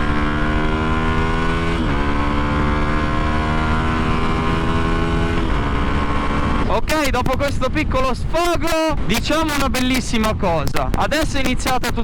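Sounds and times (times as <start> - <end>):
low wind rush: 0.0 - 12.0
motorcycle engine accelerating: 0.0 - 12.0.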